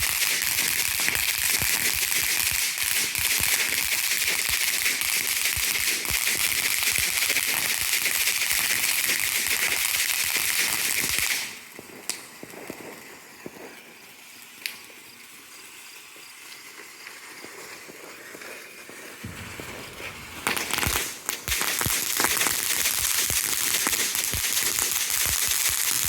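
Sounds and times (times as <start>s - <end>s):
firework hissing and crackling: 0.0s - 26.0s.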